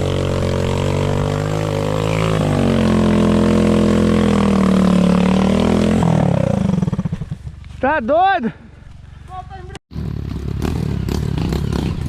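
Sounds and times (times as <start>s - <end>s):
motorcycle engine revving: 0.0s - 7.7s, 9.9s - 12.0s.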